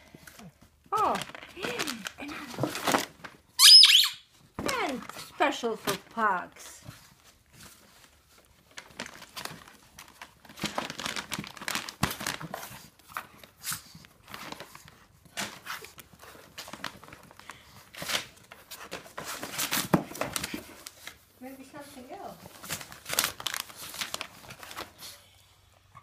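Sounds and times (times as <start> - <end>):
plastic bags crinkling: 0.3 - 3.6, 4.4 - 25.2.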